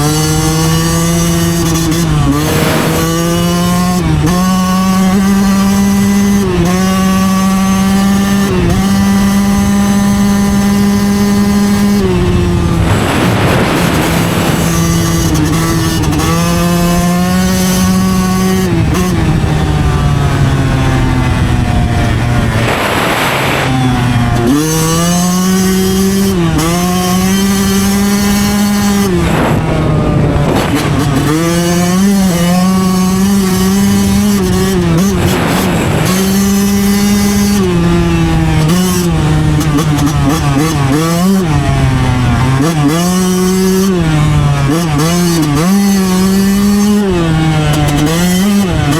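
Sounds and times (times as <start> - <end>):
dirt bike engine running hard: 0.0 - 48.9
wind noise: 0.0 - 48.9.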